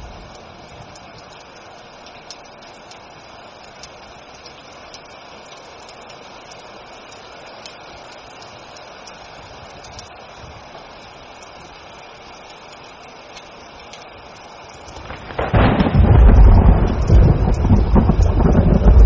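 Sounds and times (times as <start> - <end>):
raindrop ticks: 0.0 - 19.0
steady rain: 0.0 - 19.0.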